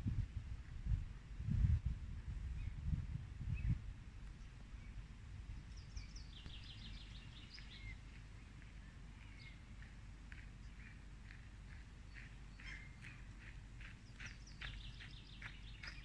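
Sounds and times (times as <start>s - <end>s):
low background rumble: 0.0s - 16.0s
songbird singing: 2.5s - 16.0s.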